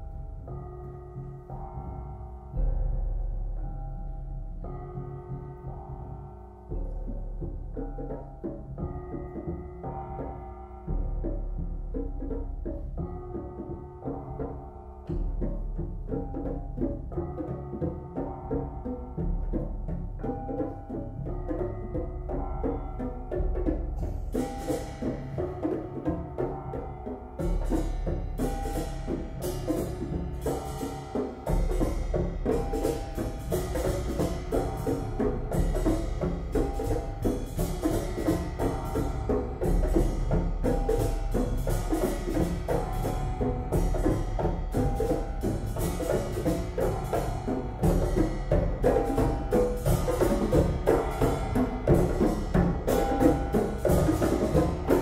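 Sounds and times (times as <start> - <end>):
percussion ensemble playing: 4.7 - 55.0.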